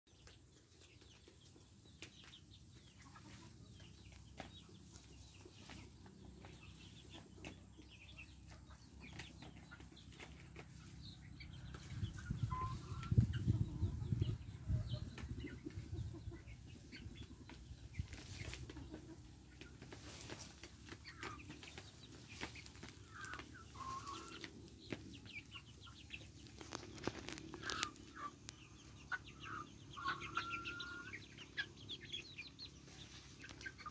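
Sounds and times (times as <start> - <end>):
chicks peeping and clucking: 0.1 - 33.9.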